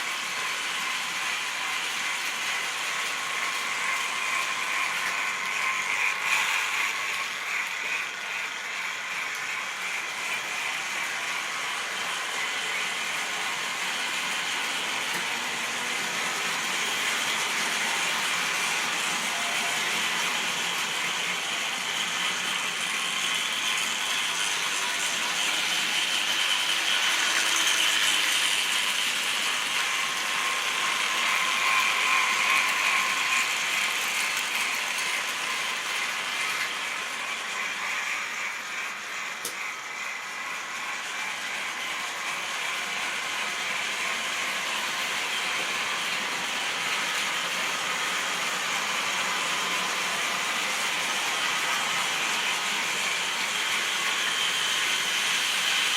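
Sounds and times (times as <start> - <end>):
model train whirring and clattering: 0.0 - 55.9.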